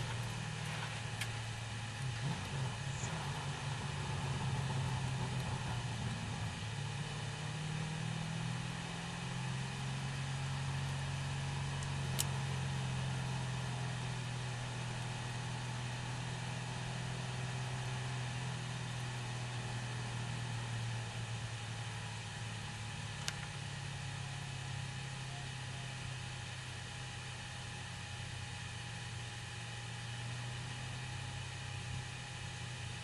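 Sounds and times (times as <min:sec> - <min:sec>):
car engine droning: 0:00.0 - 0:33.0.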